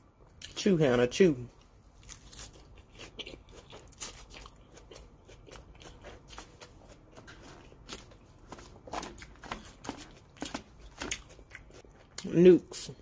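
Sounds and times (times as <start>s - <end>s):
person chewing salad: 1.5s - 12.4s.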